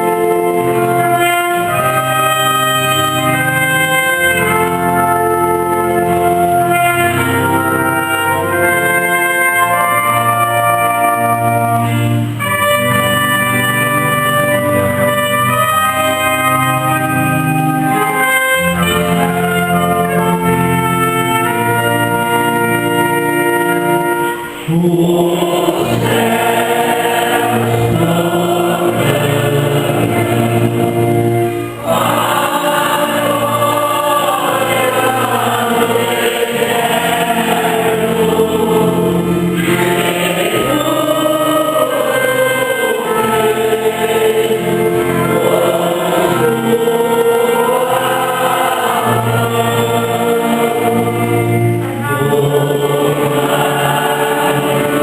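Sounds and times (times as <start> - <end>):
church choir singing a hymn: 0.0 - 55.0
instrumental accompaniment: 0.0 - 55.0.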